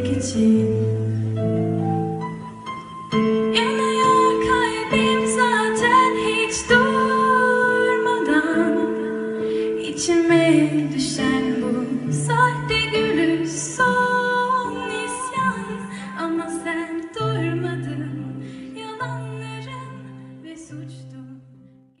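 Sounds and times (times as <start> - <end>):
woman singing a slow song: 0.0 - 1.2, 3.5 - 21.6.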